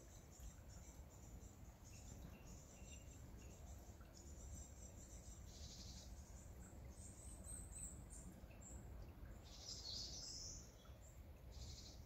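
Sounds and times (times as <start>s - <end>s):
faint steady background hiss: 0.0s - 12.0s
small birds chirping: 0.0s - 12.0s.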